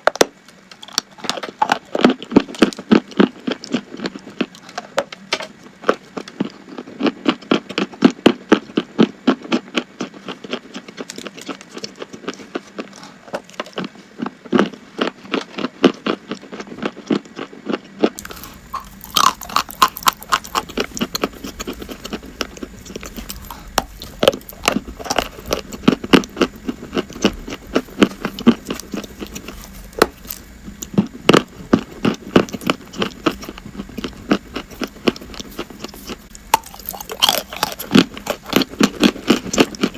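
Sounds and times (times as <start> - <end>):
person chewing crunchy chalk: 0.1 - 39.9.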